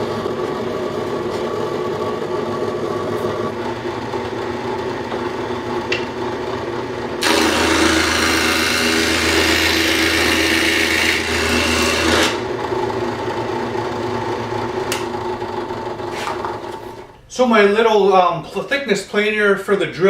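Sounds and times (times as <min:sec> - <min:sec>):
cutter planing wood: 0:00.0 - 0:17.0
drill press running: 0:00.0 - 0:17.2.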